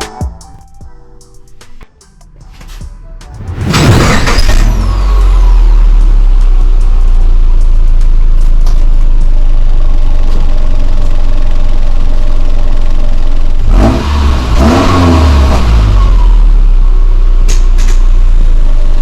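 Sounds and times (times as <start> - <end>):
car engine idling: 0.0 - 19.0
car engine revving: 1.5 - 19.0.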